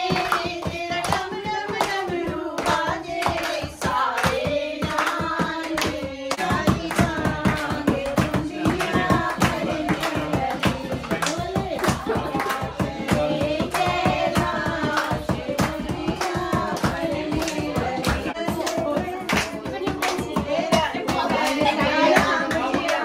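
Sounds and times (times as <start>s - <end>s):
hand clapping: 0.0s - 23.0s
hand drum beat: 0.0s - 23.0s
women singing devotional song: 0.0s - 23.0s.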